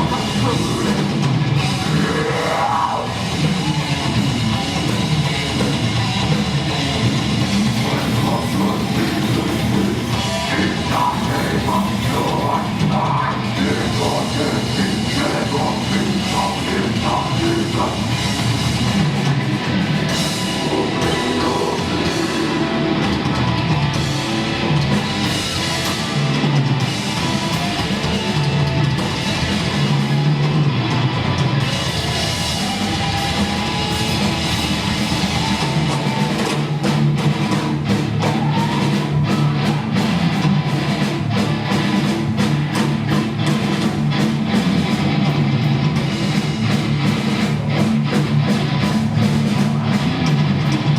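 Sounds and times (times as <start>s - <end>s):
heavy rock music: 0.0s - 50.9s.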